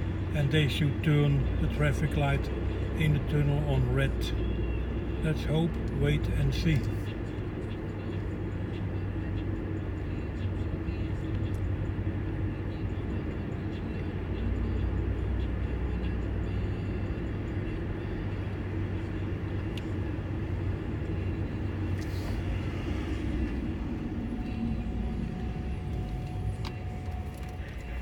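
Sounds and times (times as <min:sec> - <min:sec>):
truck diesel engine rumbling: 0:00.0 - 0:28.0.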